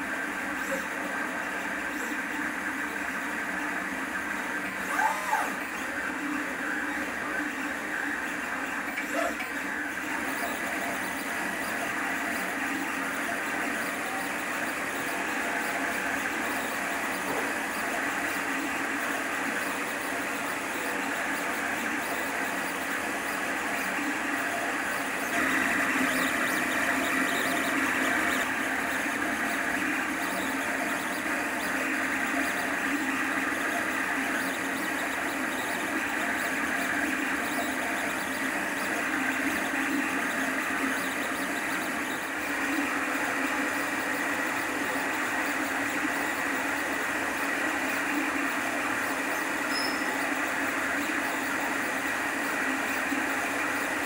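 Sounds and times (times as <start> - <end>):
three d printer whirring: 0.0 - 54.0.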